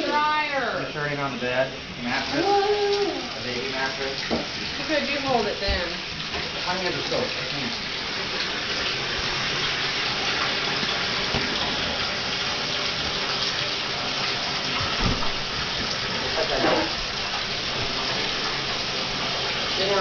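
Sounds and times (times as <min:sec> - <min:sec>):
water running into bathtub: 0:00.0 - 0:20.0.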